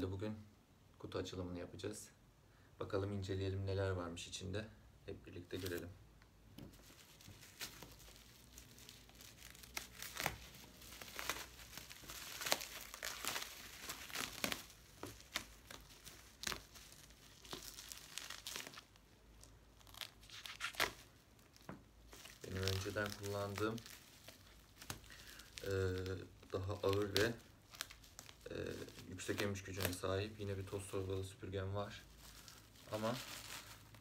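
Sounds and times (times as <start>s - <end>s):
bubble wrap rustling and crackling: 5.4s - 34.0s.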